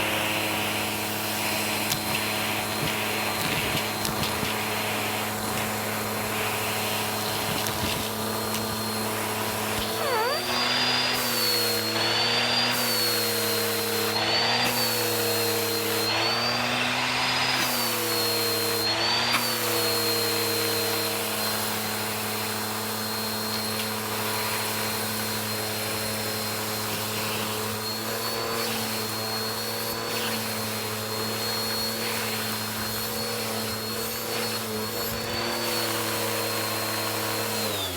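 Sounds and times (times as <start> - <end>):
vacuum cleaner on carpet: 0.0 - 37.9.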